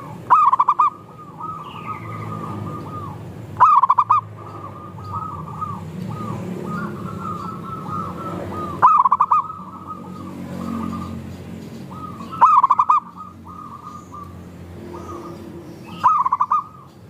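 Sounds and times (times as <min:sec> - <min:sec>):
close bird pulsed call: 0:00.0 - 0:11.2, 0:11.9 - 0:17.0
chorus of doves cooing: 0:00.0 - 0:17.0.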